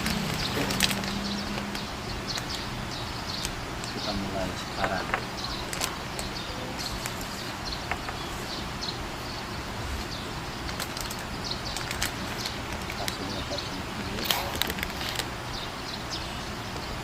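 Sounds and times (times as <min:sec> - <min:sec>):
small bird chirping: 0:00.0 - 0:17.0
steady hiss: 0:00.0 - 0:17.0.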